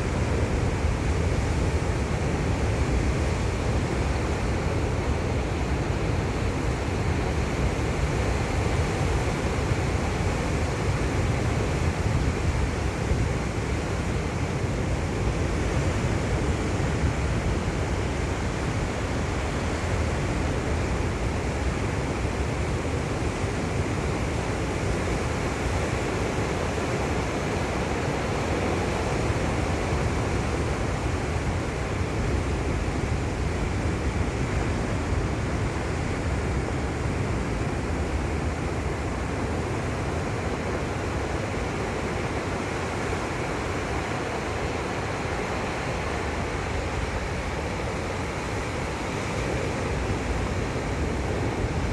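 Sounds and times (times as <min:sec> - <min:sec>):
waves breaking and washing in: 0:00.0 - 0:51.9.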